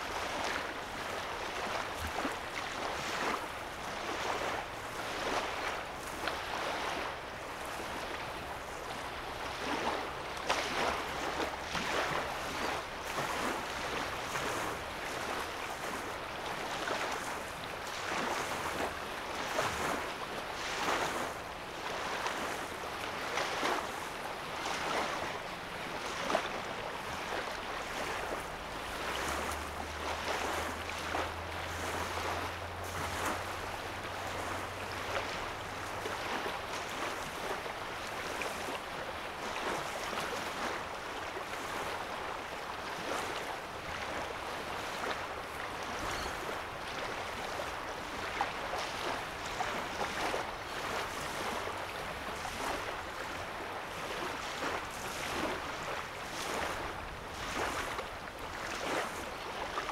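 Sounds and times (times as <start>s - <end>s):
lake waves lapping at shore: 0.0s - 59.9s.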